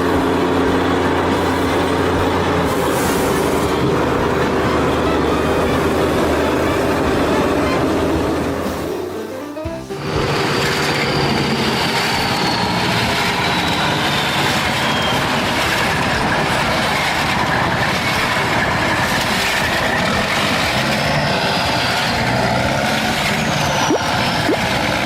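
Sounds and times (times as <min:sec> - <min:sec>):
large machine running steadily: 0:00.0 - 0:25.0.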